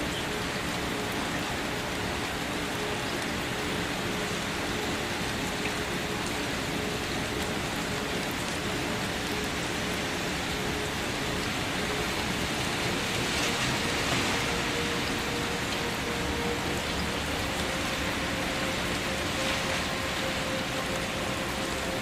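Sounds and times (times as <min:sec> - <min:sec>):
faint steady tones: 0:00.0 - 0:22.0
steady rain falling: 0:00.0 - 0:22.0.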